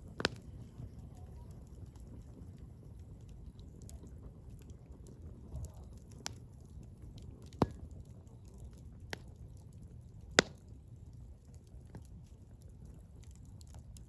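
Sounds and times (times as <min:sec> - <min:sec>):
firewood crackling pops: 0:00.0 - 0:14.0
wood fire rumbling: 0:00.0 - 0:14.0.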